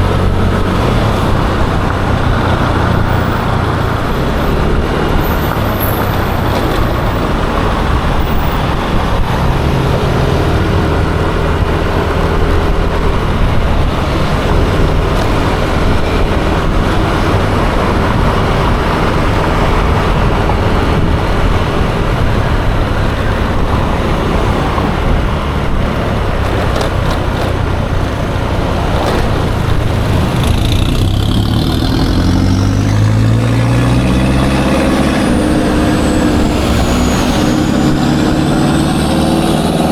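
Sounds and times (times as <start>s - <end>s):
engine accelerating: 0.0s - 39.9s
wind and road noise: 0.0s - 39.9s.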